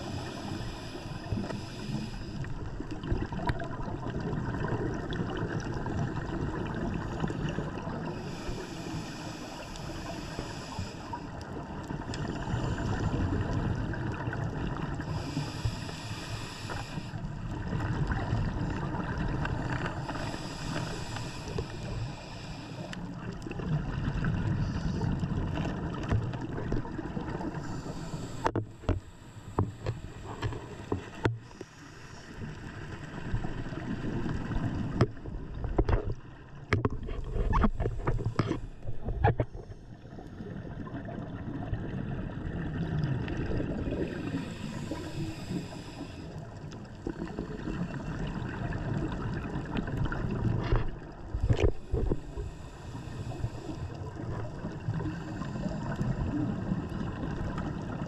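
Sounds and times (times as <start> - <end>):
underwater regulator rumble: 0.0 - 46.3, 47.0 - 58.0
exhaled bubbles hissing: 0.0 - 58.0.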